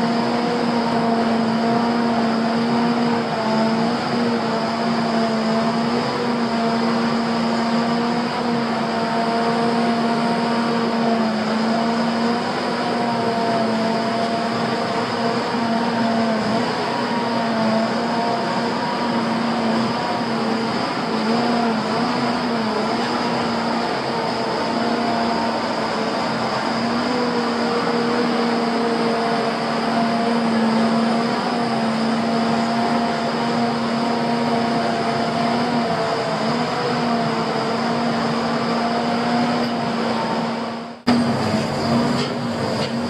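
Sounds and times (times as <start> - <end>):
truck engine humming: 0.0 - 43.0.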